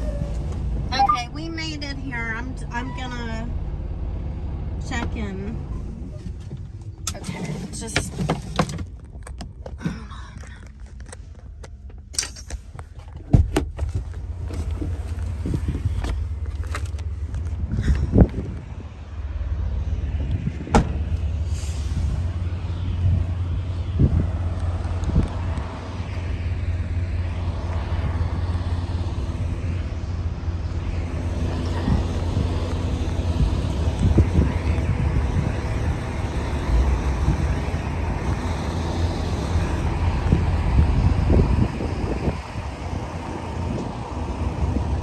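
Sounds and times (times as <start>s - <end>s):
diesel engine idling: 0.0s - 7.2s, 13.9s - 45.0s.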